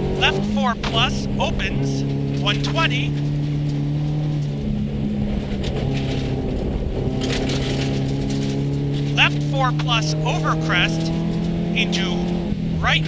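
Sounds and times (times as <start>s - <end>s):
car engine pulling under load: 0.0s - 13.0s
gravel rattle: 0.0s - 13.0s.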